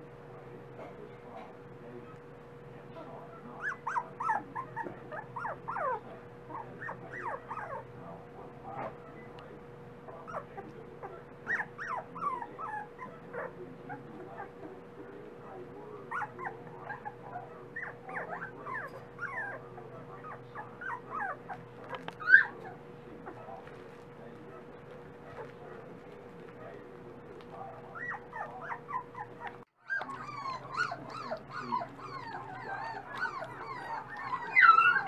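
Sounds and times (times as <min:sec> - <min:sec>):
puppies yipping and whimpering: 0:03.2 - 0:09.5, 0:10.1 - 0:14.8, 0:15.4 - 0:35.0.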